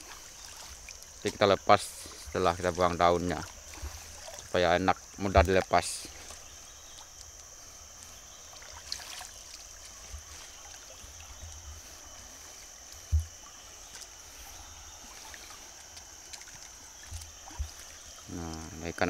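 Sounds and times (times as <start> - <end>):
constant high hiss: 0.0 - 19.0
river water flowing: 0.0 - 19.0.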